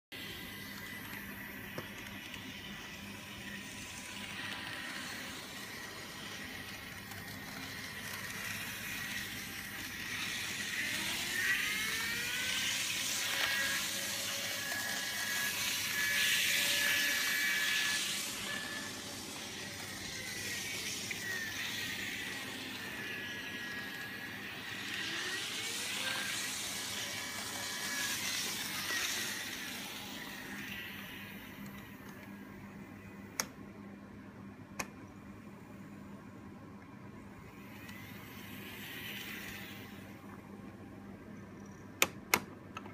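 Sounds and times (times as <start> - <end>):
small electric motor whining: 0.2 - 33.6, 37.2 - 40.4.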